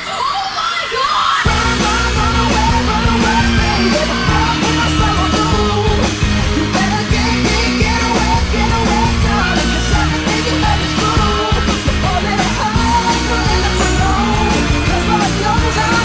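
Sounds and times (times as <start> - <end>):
up-tempo music with sung vocals: 0.0 - 16.0.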